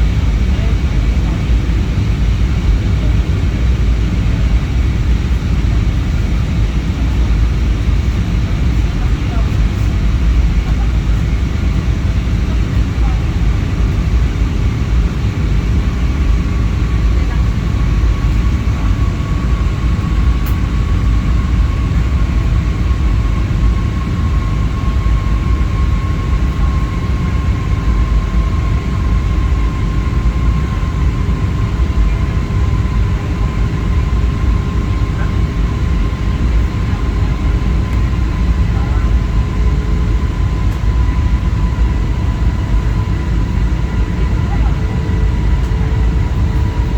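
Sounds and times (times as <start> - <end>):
airliner engines rumbling: 0.0 - 46.9
faint high engine whine: 0.0 - 46.9.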